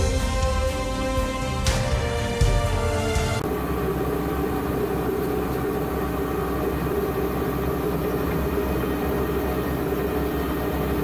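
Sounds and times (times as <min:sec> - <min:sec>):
baler mechanical hum and whine: 0:00.0 - 0:11.0.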